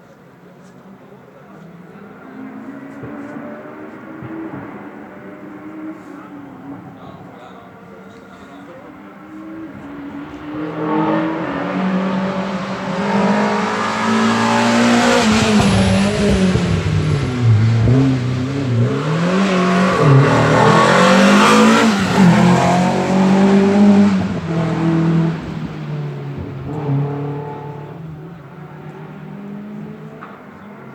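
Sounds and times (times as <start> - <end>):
rally car engine revving: 1.6 - 30.9.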